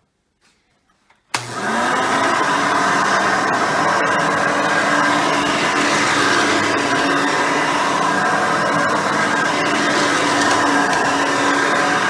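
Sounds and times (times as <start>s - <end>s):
upright vacuum cleaner running: 1.4s - 12.0s.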